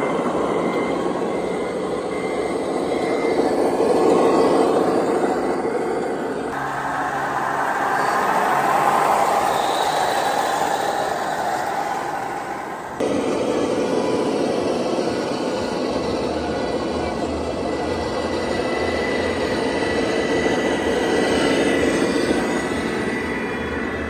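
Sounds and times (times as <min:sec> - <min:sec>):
hall ambience: 0:00.0 - 0:24.0
model trucks running: 0:00.0 - 0:24.0.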